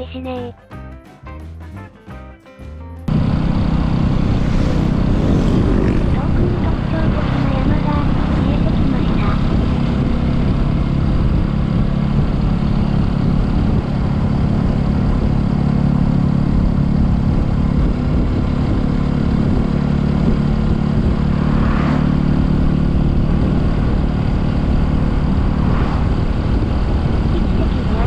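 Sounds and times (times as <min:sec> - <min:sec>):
motorcycle engine running: 0:03.1 - 0:28.0
road and wind noise: 0:03.1 - 0:28.0.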